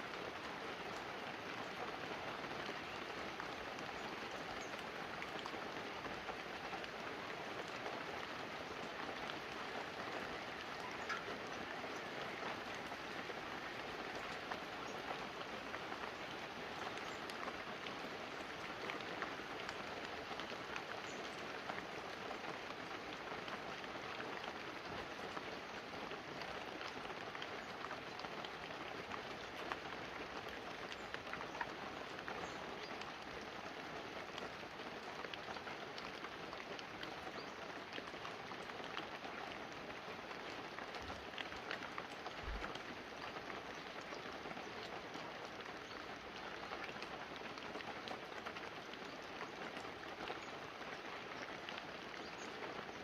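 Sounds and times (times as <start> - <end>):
light rain on leaves and roof: 0.0 - 53.0.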